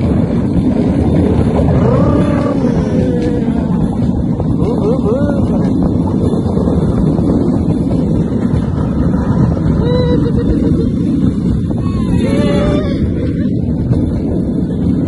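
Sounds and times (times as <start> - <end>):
small engine and wheels rumbling: 0.0 - 15.0
wind on microphone: 0.0 - 15.0.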